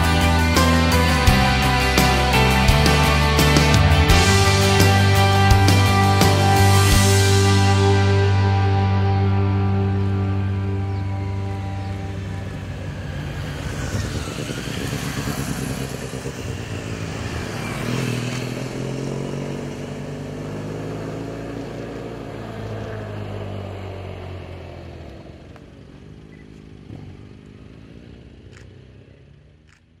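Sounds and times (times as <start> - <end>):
motorcycles riding past: 0.0 - 29.9.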